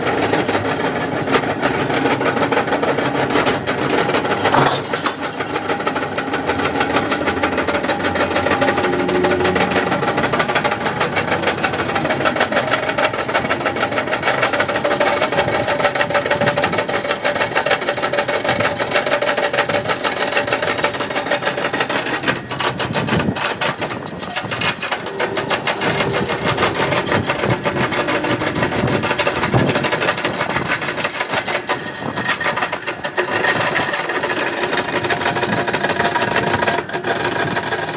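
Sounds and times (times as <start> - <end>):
power cutter grinding steel: 0.0 - 37.9.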